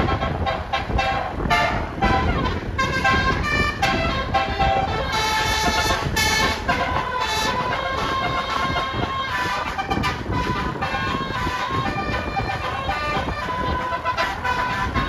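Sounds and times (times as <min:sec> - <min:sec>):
bus musical horn playing a tune: 0:00.0 - 0:15.0
engine and road noise: 0:00.0 - 0:15.0.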